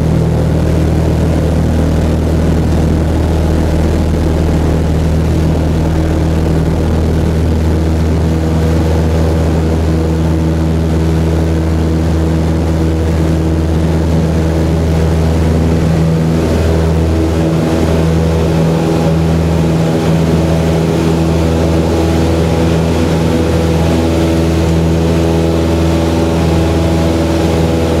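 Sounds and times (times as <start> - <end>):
aircraft engine and propeller drone: 0.0 - 28.0.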